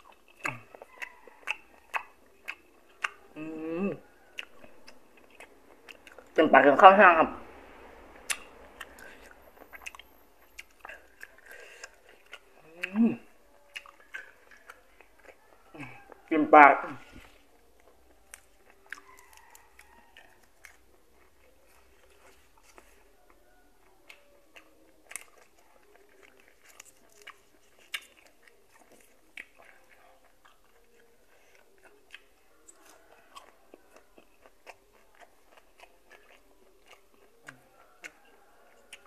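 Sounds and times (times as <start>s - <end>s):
chewing and mouth sounds: 0.0s - 7.0s, 8.2s - 39.0s.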